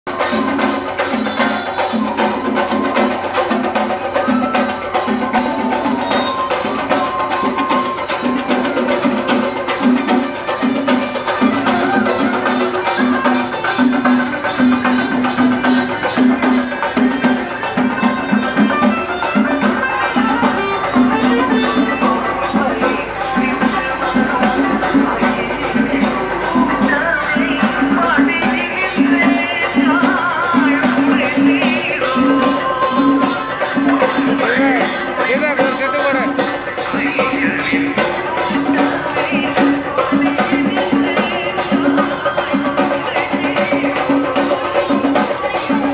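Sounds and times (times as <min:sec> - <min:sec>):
jingling percussion: 0:00.1 - 0:45.9
rhythmic drumming: 0:00.1 - 0:45.9
sliding melody: 0:00.1 - 0:45.9.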